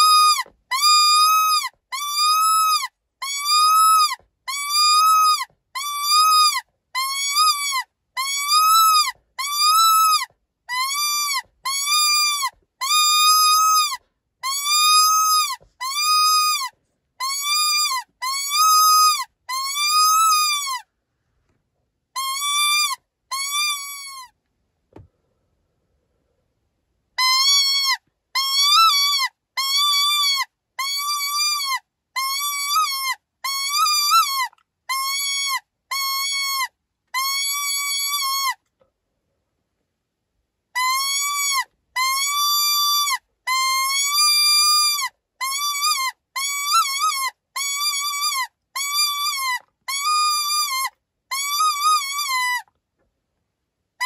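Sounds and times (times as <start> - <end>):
high-pitched animal distress cries: 0.0 - 20.9, 22.2 - 24.4, 27.2 - 38.6, 40.8 - 52.7.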